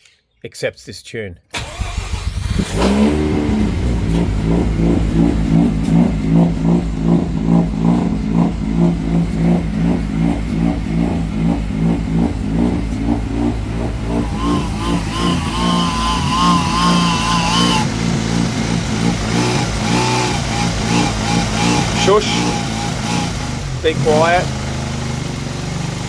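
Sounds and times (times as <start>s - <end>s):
rotary car engine idling: 1.6s - 26.0s.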